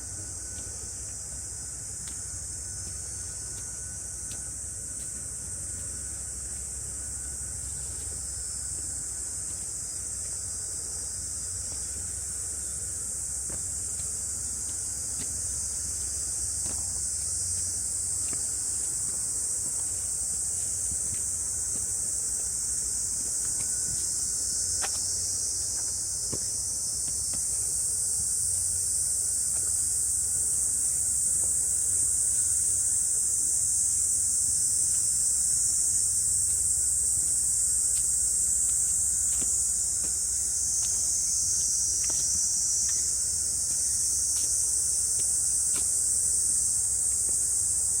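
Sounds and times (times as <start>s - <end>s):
cicadas buzzing: 0.0s - 48.0s.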